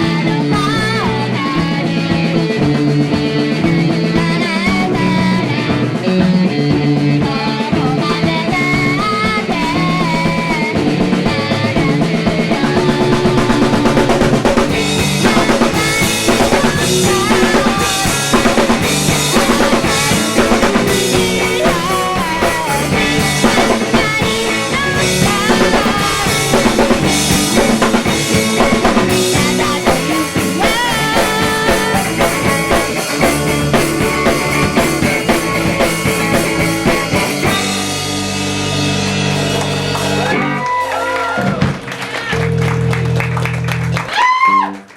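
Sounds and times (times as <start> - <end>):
drum kit: 0.0 - 44.9
indie-pop band playing live: 0.0 - 44.9.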